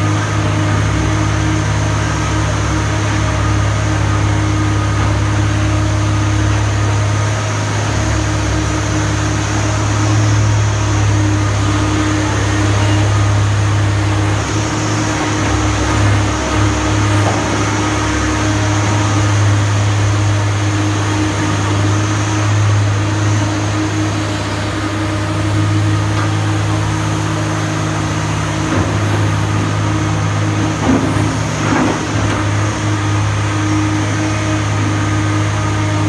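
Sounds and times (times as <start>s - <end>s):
excavator diesel engine droning: 0.0s - 36.0s.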